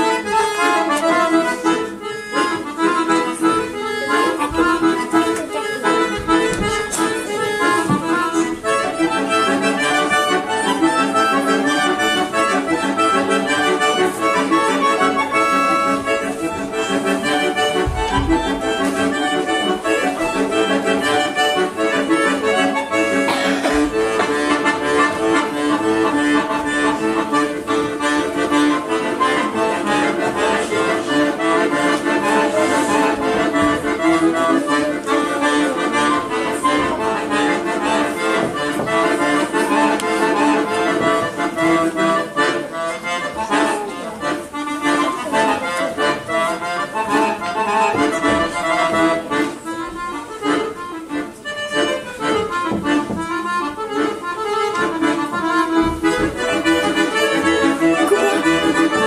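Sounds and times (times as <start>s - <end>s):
accordion playing: 0.0s - 59.0s.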